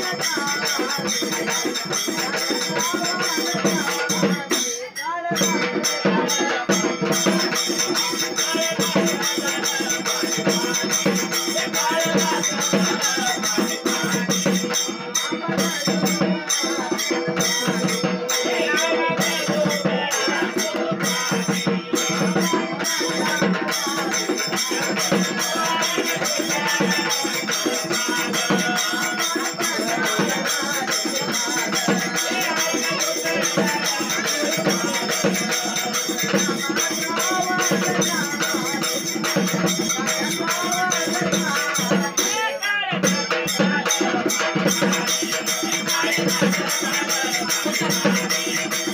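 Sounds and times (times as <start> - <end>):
group of voices singing: 0.0 - 48.9
jingling metal percussion: 0.0 - 48.9
hand drum: 5.4 - 42.4, 43.0 - 48.9.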